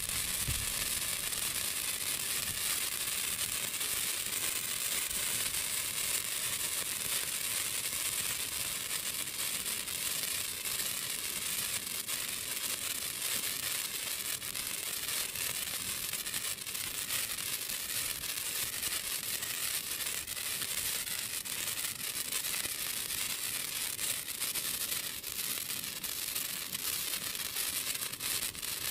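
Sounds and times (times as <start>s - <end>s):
sparklers fizzing and crackling: 0.0s - 28.9s.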